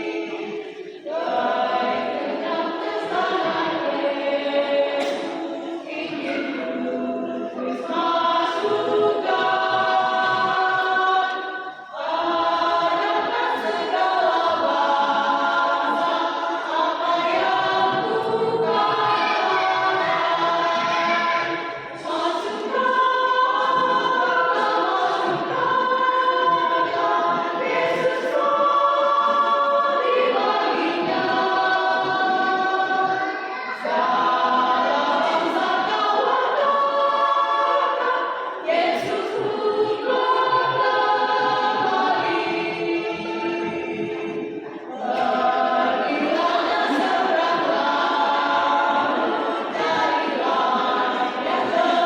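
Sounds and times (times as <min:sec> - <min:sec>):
choir singing a hymn: 0:00.0 - 0:52.0.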